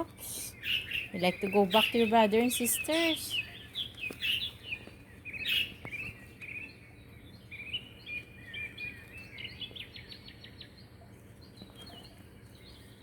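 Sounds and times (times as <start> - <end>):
baby birds chirping: 0.0 - 13.0.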